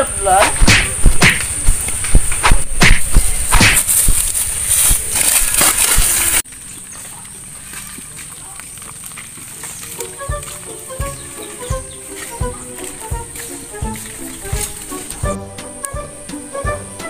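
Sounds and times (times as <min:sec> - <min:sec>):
steady high hiss: 0:00.0 - 0:06.8, 0:09.6 - 0:17.0
outdoor background: 0:00.0 - 0:17.0
people scuffling in grass: 0:00.0 - 0:17.0.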